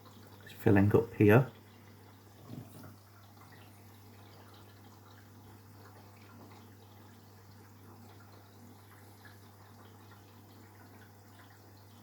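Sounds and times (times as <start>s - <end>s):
water trickling into drum: 0.0s - 12.0s.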